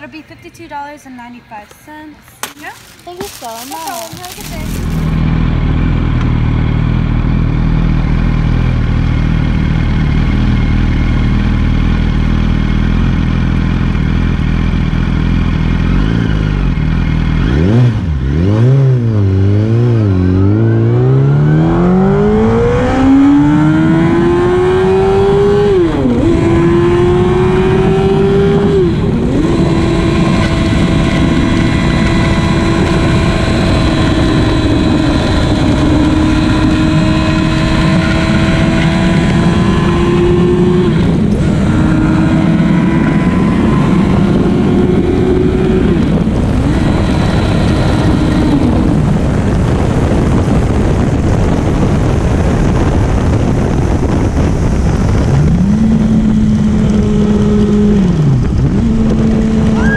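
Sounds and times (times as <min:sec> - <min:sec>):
motorcycle engine revving: 0:03.2 - 0:59.9.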